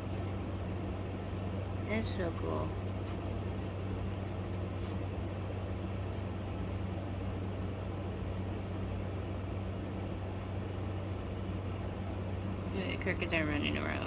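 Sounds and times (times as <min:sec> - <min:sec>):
crickets chirping: 0:00.0 - 0:14.0
low electrical hum: 0:00.0 - 0:14.0.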